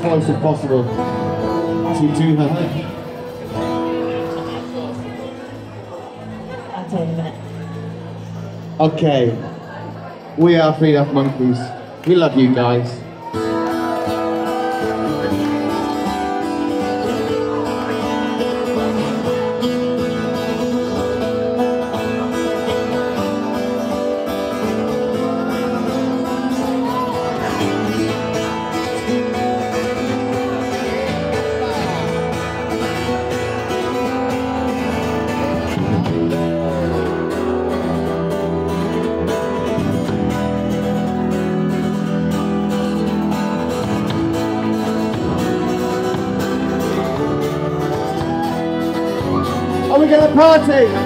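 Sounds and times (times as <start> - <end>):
live band playing instrumental: 0.0 - 10.2, 13.2 - 51.0
acoustic guitar with sliding notes: 0.0 - 11.0, 13.0 - 51.0.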